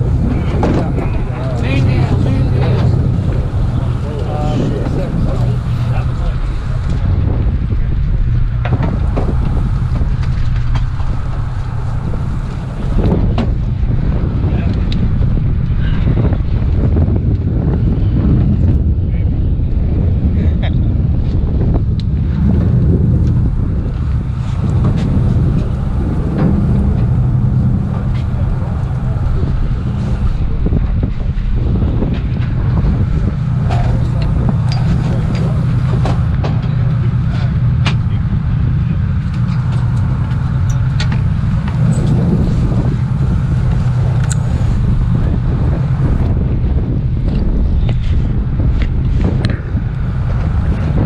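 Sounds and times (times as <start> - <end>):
boat engine rumble: 0.0 - 51.0
wind buffeting microphone: 0.0 - 51.0.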